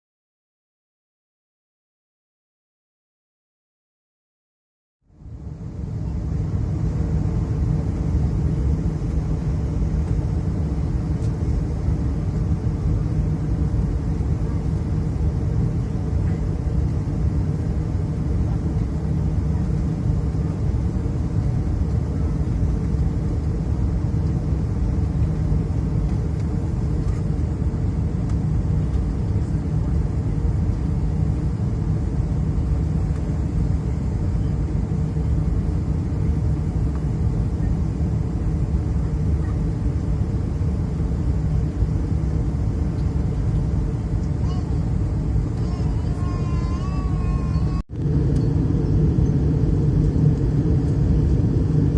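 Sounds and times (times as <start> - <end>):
airplane cabin engine drone: 5.0 - 51.9.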